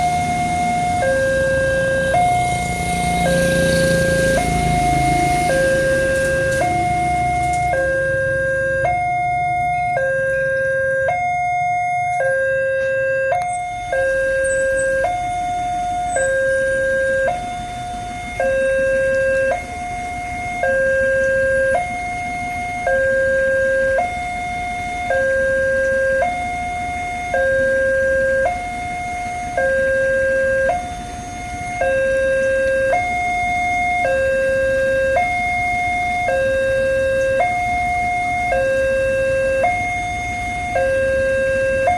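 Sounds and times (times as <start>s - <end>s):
two-tone crossing warning siren: 0.0s - 41.9s.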